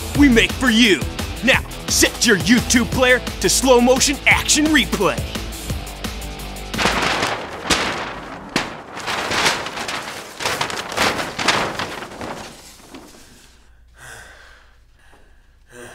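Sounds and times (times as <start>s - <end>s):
paper backdrop crashing and crumpling: 0.2s - 13.6s.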